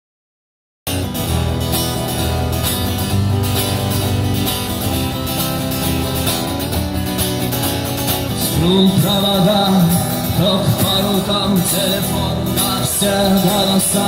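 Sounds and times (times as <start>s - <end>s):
strummed acoustic guitar: 0.9s - 14.0s.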